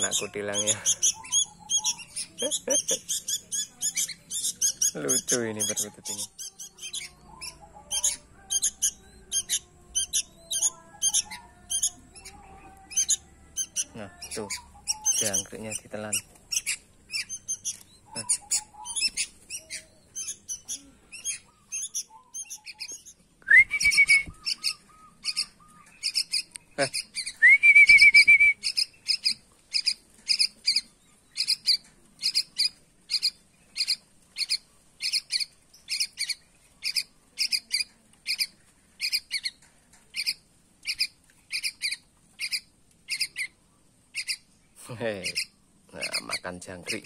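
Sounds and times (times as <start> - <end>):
rising bird calls: 0.0 - 39.5
young bird begging chirps: 0.0 - 44.5, 45.2 - 47.0.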